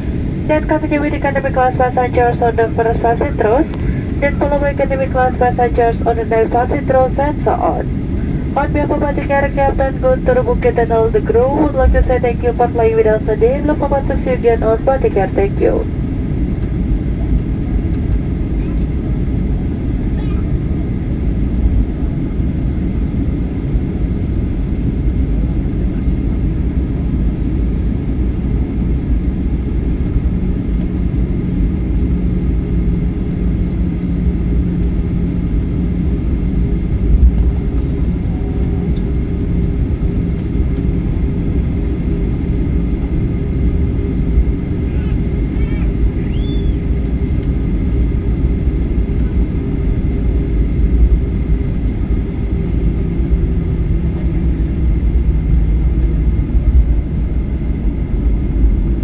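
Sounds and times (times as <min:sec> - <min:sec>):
constant hum: 0:00.0 - 0:59.0
jet engines rumbling: 0:00.0 - 0:59.0.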